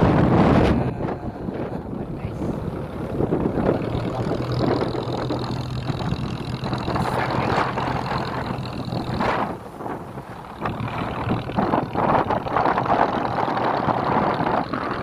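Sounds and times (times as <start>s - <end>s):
motorboat engine hum: 0.0s - 15.0s
water wash: 0.0s - 15.0s
wind: 0.0s - 15.0s.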